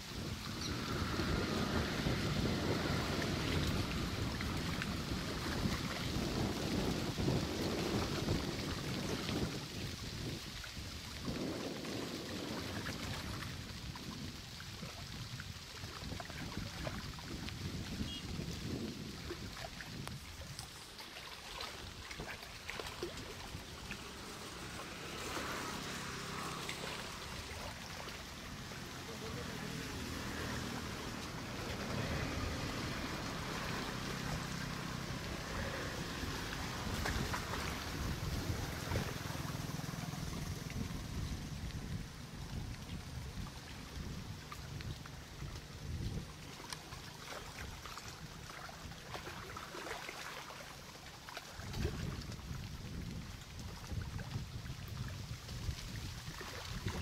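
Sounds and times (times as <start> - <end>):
wind buffeting microphone: 0.0 - 49.3, 51.5 - 57.0.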